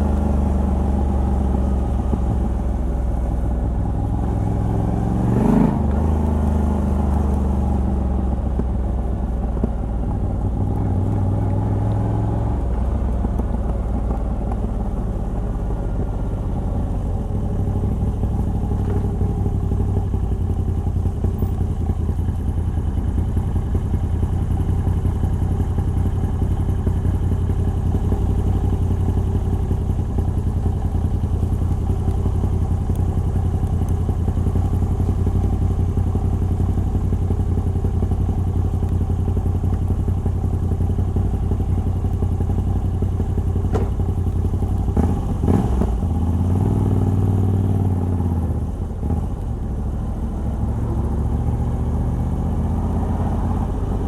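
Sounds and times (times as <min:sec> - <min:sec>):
motorcycle engine revving: 0:03.8 - 0:08.8, 0:09.5 - 0:54.0.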